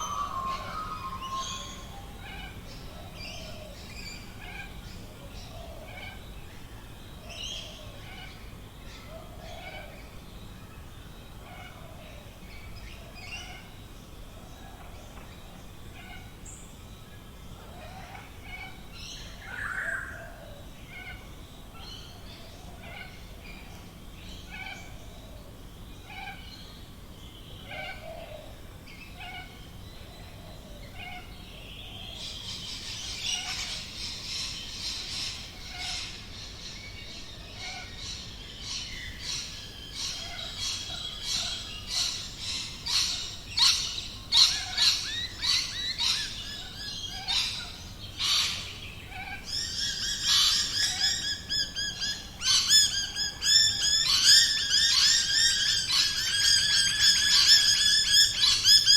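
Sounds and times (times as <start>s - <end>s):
birds chirping and trilling: 0.0s - 26.9s, 27.5s - 58.9s.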